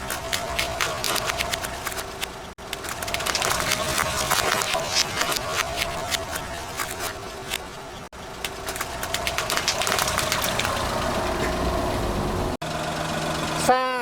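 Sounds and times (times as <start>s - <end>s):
water balloons crackling bursting: 0.0s - 12.2s
water gushing: 0.0s - 12.4s.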